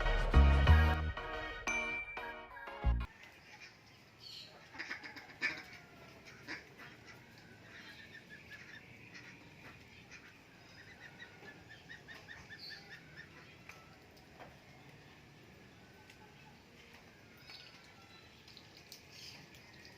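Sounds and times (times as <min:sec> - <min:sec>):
faint birds calling: 0:03.1 - 0:19.9.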